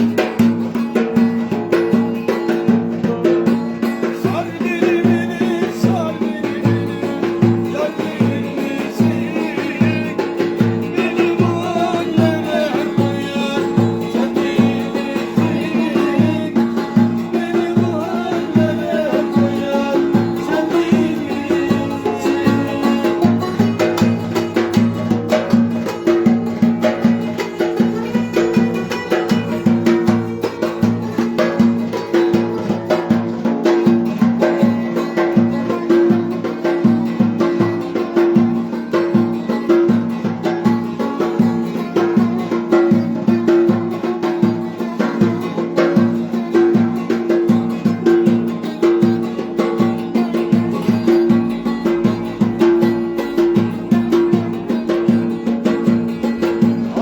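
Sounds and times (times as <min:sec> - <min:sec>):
steady percussion beat: 0:00.0 - 0:57.0.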